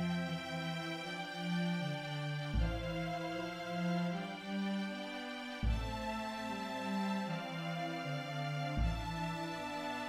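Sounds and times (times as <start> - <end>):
slow sad instrumental score: 0.0 - 10.0.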